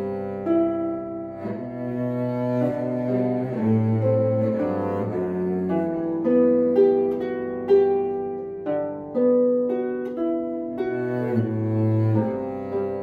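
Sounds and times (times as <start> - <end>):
cello playing: 0.0 - 13.0
harp plucking melody: 0.0 - 13.0.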